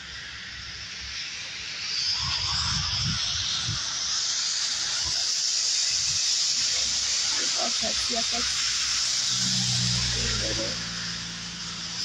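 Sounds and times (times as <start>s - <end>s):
car tyres hissing on wet road: 0.0s - 12.0s.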